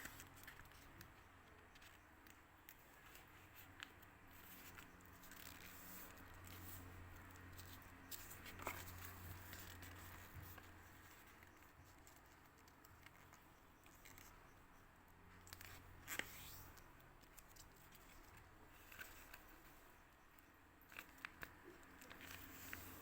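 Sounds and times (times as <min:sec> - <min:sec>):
paper rustling and crinkling: 0:00.0 - 0:14.3, 0:15.5 - 0:19.8, 0:20.9 - 0:23.0.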